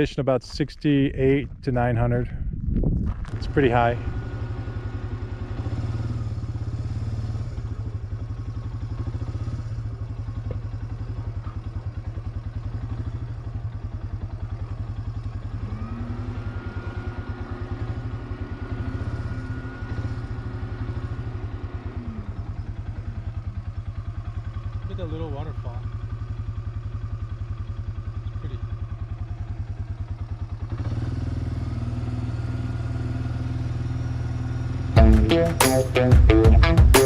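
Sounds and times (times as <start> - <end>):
single-cylinder engine running: 0.8 - 37.0.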